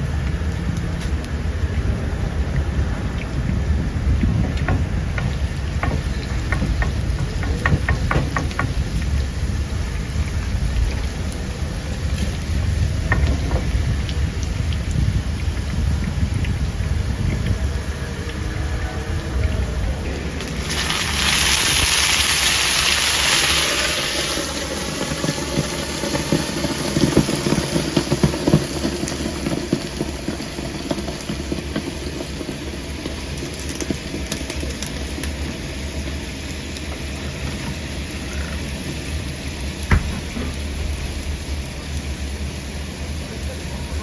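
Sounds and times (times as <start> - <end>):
crackling fry: 0.0 - 44.0
steady kitchen hum: 2.7 - 44.0
steam hissing from hot pan: 3.4 - 44.0.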